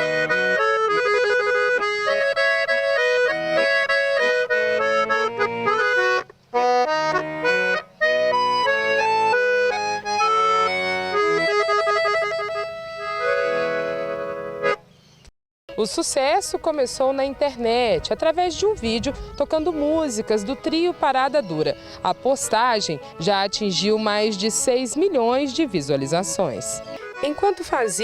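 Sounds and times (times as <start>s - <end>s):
accordion melody: 0.0s - 28.0s.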